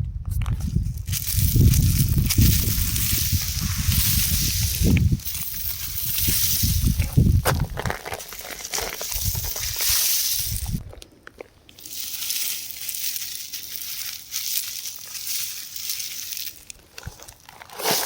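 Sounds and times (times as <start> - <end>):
rock crumbling apart: 1.0 - 18.0.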